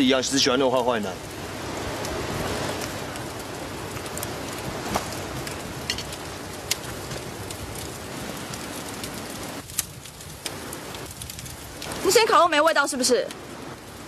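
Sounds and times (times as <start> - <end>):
barbecue sizzling: 0.0 - 14.0
popping and crackling: 0.0 - 14.0.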